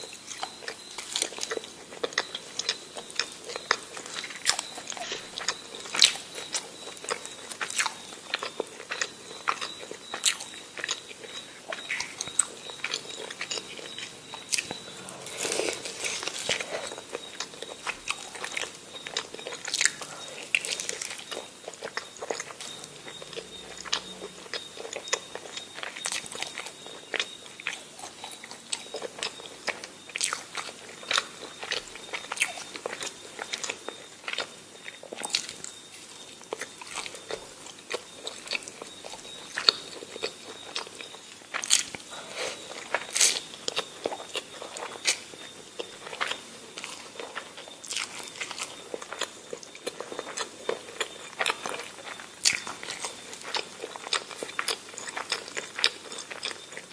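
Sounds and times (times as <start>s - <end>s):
chewing and biting food: 0.0s - 56.9s.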